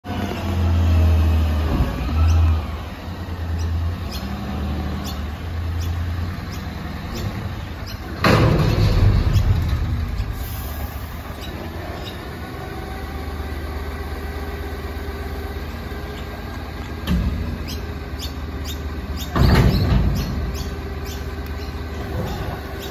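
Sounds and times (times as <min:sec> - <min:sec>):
diesel truck engine running: 0:00.0 - 0:22.9.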